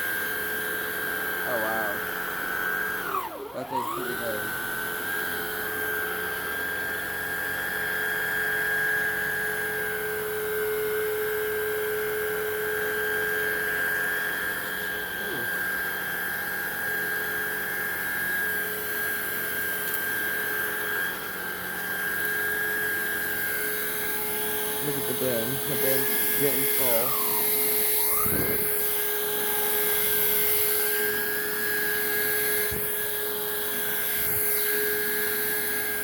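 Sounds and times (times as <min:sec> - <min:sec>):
vacuum cleaner on carpet: 0:00.0 - 0:36.0.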